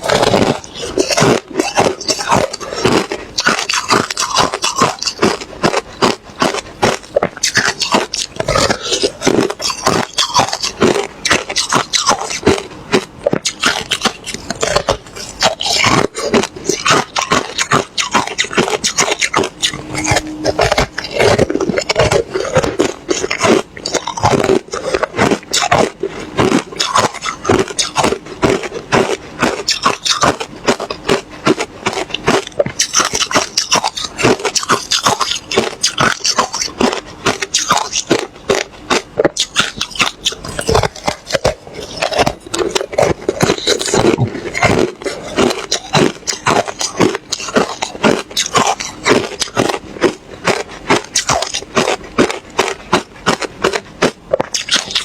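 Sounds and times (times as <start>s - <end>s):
ice crunching in mouth: 0.0s - 55.0s.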